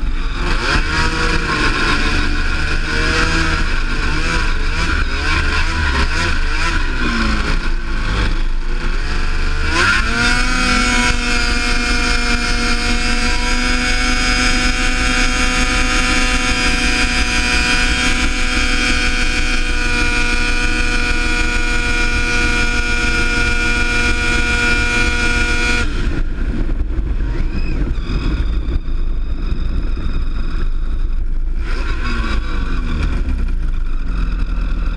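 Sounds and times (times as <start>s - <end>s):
snowmobile engine revving: 0.0s - 34.9s.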